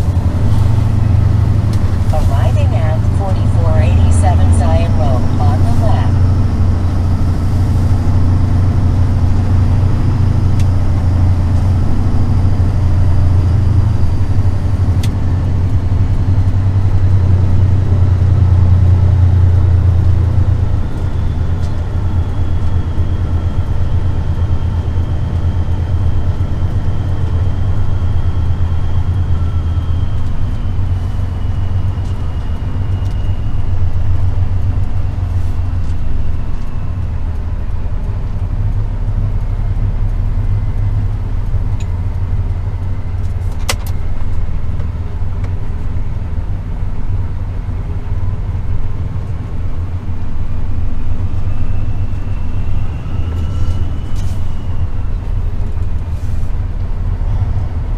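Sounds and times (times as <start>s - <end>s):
truck diesel engine droning: 0.0s - 57.9s.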